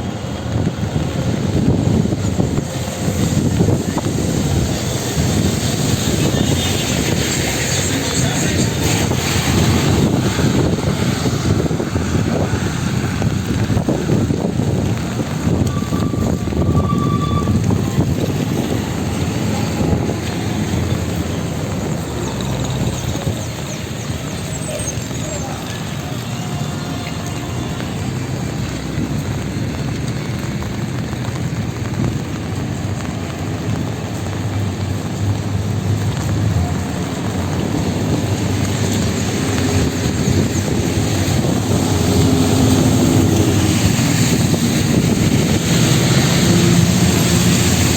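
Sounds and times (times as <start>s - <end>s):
rain falling on street: 0.0s - 47.9s
road traffic rumble: 0.0s - 47.9s
wind buffeting microphone: 0.0s - 47.9s.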